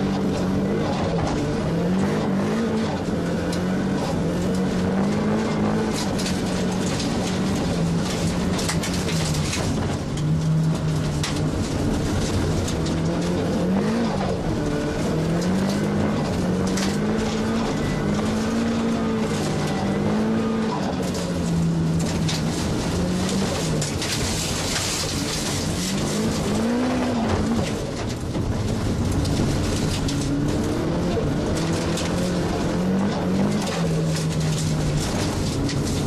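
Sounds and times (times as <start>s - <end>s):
race car engine revving: 0.0s - 36.0s
sharp clicks and rattles: 0.0s - 36.0s.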